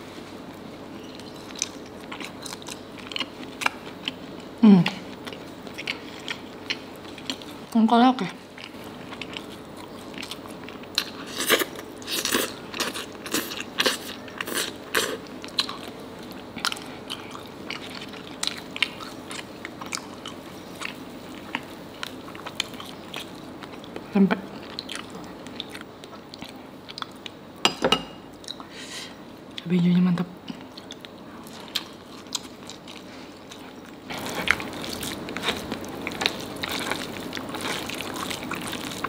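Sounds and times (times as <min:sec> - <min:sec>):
chewing and crunching food: 0:00.2 - 0:27.4, 0:30.5 - 0:39.0.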